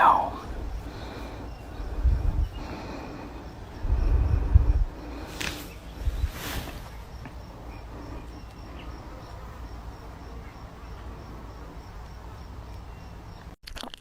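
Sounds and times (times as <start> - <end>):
cricket chirping: 0.0 - 13.6
low background hum: 0.0 - 13.6.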